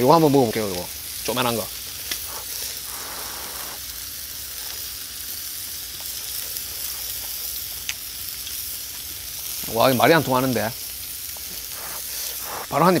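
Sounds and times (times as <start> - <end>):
meat sizzling in fat: 0.0 - 13.0.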